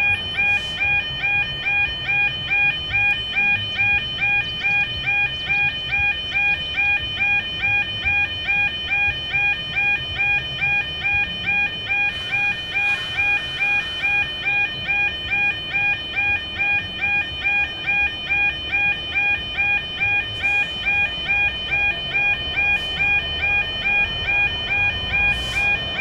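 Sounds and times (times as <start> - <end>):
level crossing warning alarm: 0.0 - 26.0.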